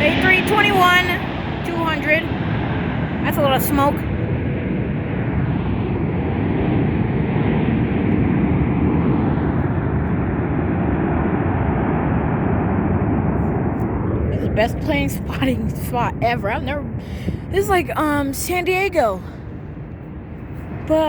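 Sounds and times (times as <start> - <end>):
airliner jet engines rushing: 0.0 - 21.0.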